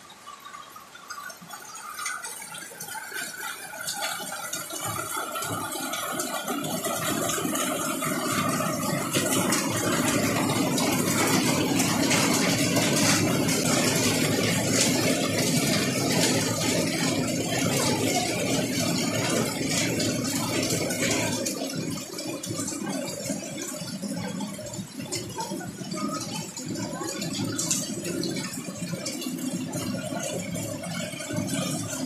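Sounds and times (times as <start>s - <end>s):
heavy rain on roof: 0.1s - 32.0s.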